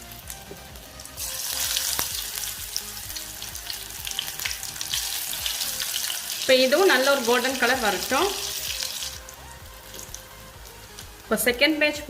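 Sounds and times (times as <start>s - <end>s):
food deep-frying in oil: 0.0s - 11.4s.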